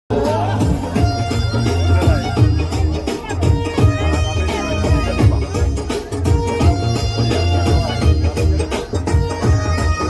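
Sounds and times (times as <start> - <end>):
dance music with heavy bass: 0.1 - 10.0.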